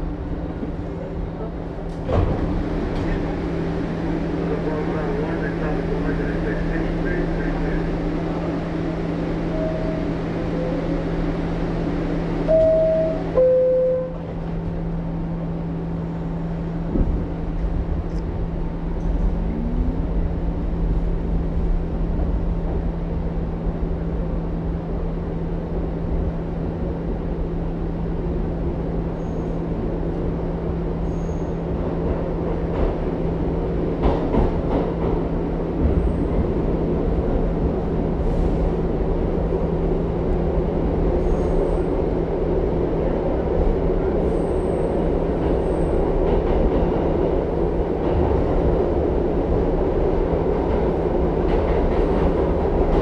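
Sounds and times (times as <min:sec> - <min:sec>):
subway wheels rumbling on track: 0:00.0 - 0:53.0.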